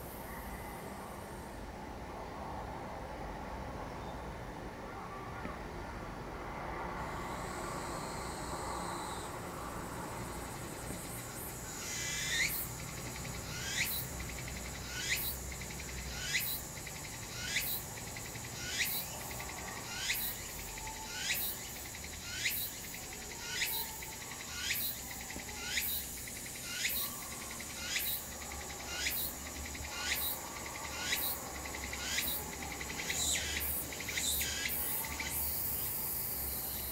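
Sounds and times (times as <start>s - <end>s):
cicada calls falling in pitch: 7.0s - 36.9s.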